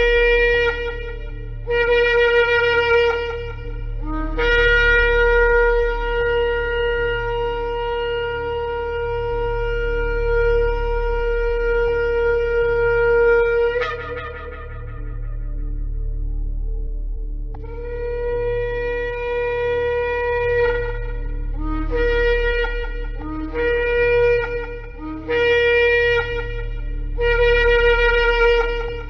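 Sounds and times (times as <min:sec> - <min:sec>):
shofar blast: 0:00.0 - 0:16.1, 0:17.6 - 0:29.0
steady low drone: 0:00.0 - 0:29.0.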